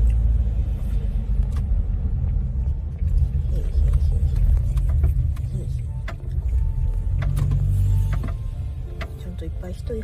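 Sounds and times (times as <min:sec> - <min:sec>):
car driving slowly rumble: 0:00.0 - 0:10.0.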